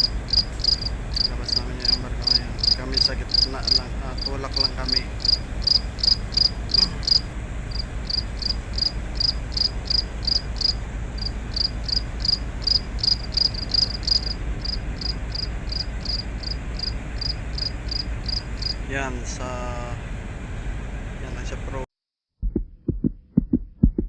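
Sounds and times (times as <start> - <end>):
cricket chirping: 0.0 - 20.0
low rumble: 0.0 - 21.8, 22.4 - 24.0.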